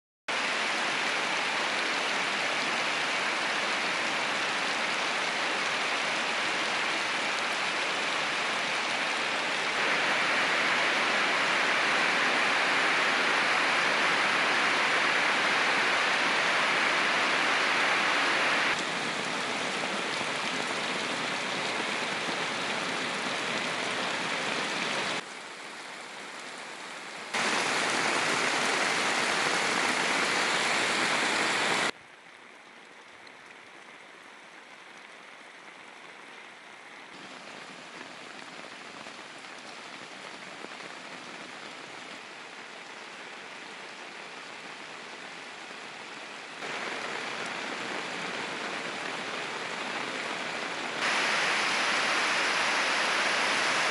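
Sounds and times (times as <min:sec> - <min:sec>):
heavy rain on pavement: 0:00.3 - 0:53.9.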